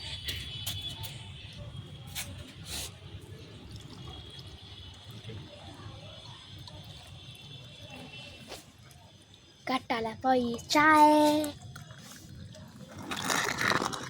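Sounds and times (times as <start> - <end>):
liquid simmering in a pot: 1.3 - 13.9.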